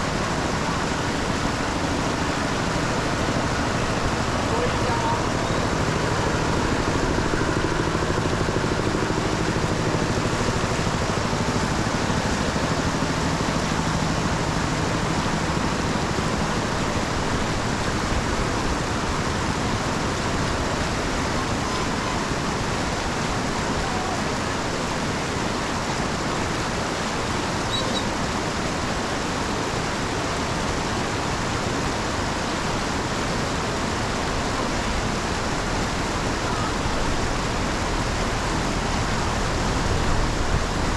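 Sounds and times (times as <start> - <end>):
rain water pouring into drain: 0.0 - 40.9.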